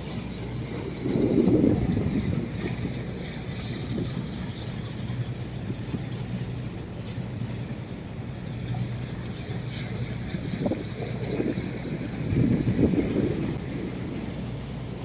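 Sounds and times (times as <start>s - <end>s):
motorboat engine humming: 0.0s - 15.0s
water rushing past hull: 0.0s - 15.0s
wind buffeting microphone: 0.0s - 15.0s.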